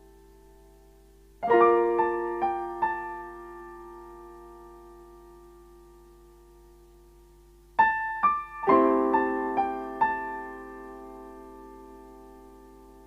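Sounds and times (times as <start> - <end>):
piano notes and chord: 0.0 - 13.0.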